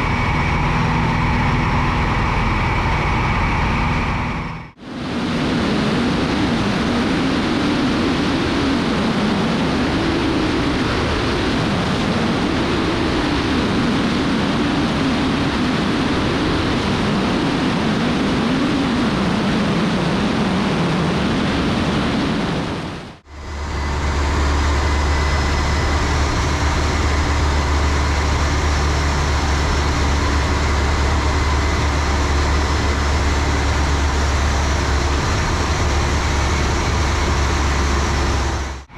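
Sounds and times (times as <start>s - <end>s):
airplane engine and cabin noise: 0.0s - 38.9s.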